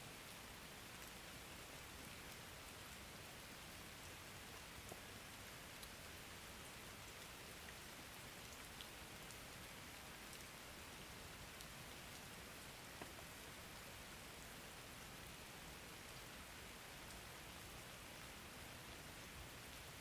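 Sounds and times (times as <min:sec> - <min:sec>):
soft rain falling: 0:00.0 - 0:20.0.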